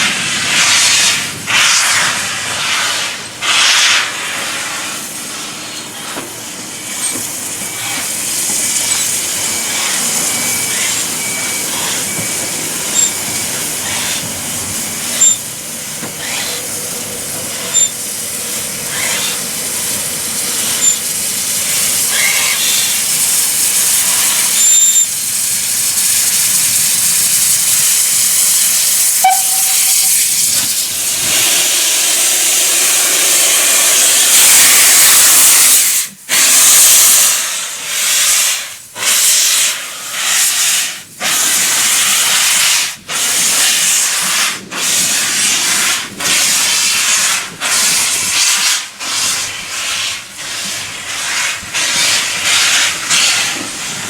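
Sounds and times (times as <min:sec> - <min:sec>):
locomotive exhaust chuffs: 0:00.0 - 0:54.0
steam locomotive hissing: 0:00.0 - 0:54.0.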